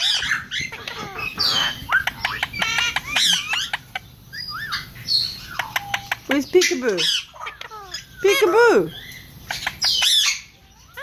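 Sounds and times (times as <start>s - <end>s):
parrots chattering: 0.0s - 11.0s.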